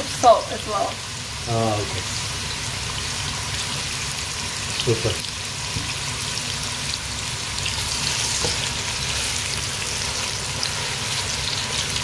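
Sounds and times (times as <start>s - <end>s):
carrots sizzling in hot oil: 0.0s - 12.0s.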